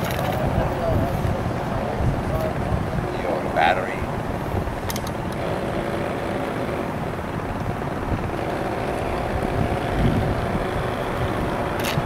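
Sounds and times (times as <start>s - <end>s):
faint motor hum: 0.0s - 12.0s
wind rumbling on microphone: 0.0s - 12.0s.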